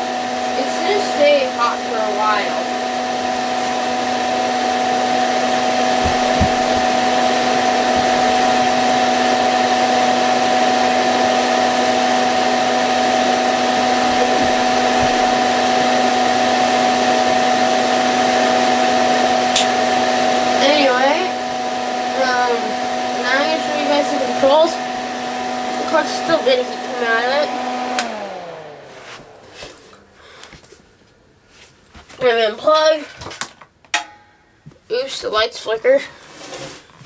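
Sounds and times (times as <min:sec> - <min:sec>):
heater blower fan humming: 0:00.0 - 0:36.3.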